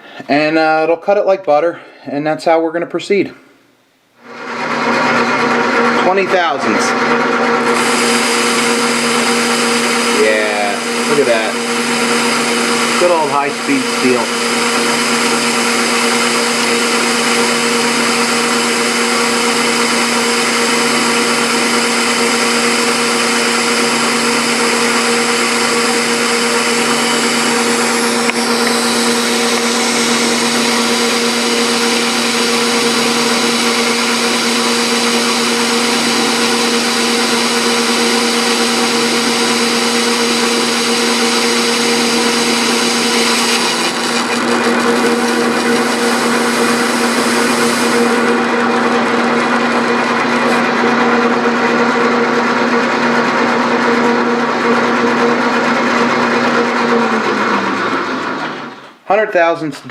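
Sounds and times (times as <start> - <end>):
metal lathe running: 4.2 - 58.9.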